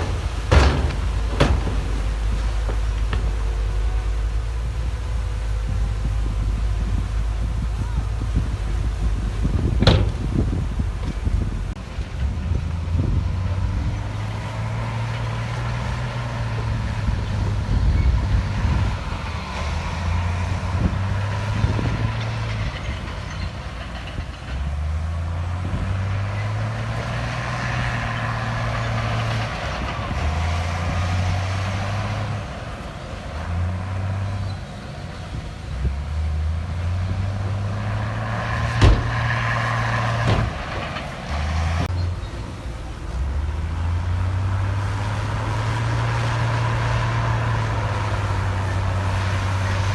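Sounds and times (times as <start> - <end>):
heavy diesel engine droning: 0.0 - 49.9.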